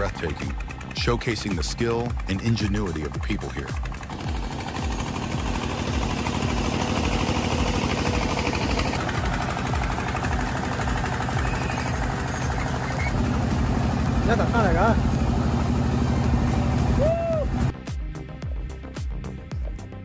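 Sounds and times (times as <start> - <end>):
heavy vehicle engine throbbing: 0.0 - 17.8.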